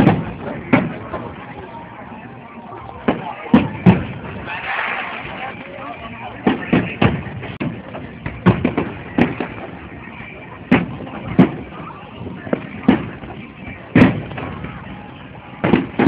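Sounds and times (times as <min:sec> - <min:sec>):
fireworks booming: 0:00.0 - 0:01.8, 0:03.0 - 0:05.6, 0:06.3 - 0:16.0.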